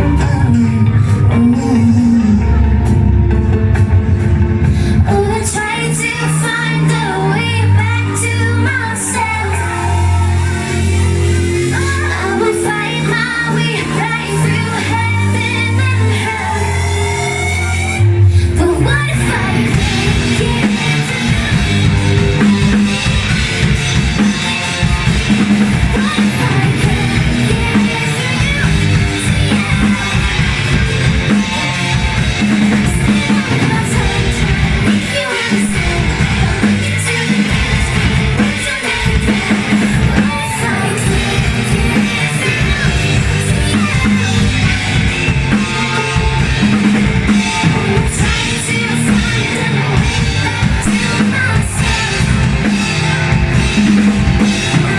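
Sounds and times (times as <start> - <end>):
person singing: 0.0 - 3.6, 4.5 - 54.9
drum kit: 0.0 - 54.9
live band playing: 0.0 - 54.9.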